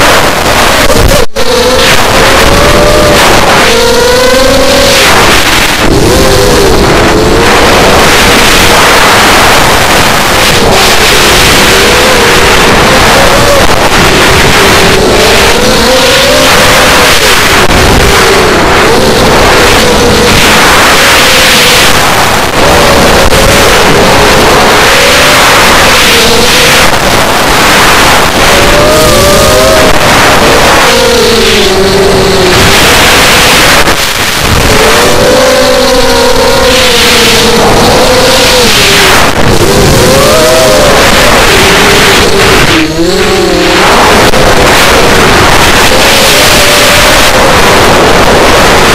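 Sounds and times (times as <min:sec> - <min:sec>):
quadcopter motors whining: 0:00.0 - 0:48.9
wind rush on microphone: 0:00.0 - 0:48.9.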